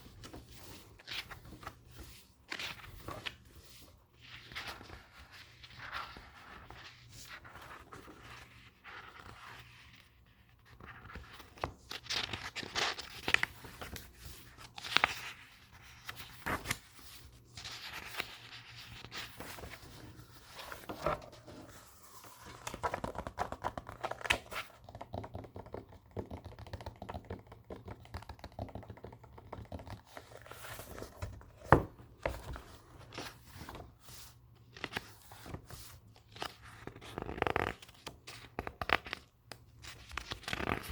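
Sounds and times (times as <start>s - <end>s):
paper pages turning and rustling: 0.0s - 40.9s.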